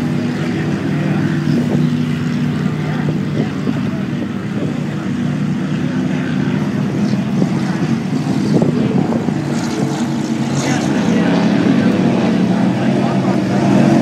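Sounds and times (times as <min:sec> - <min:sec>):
powerboat engines droning: 0:00.0 - 0:14.0.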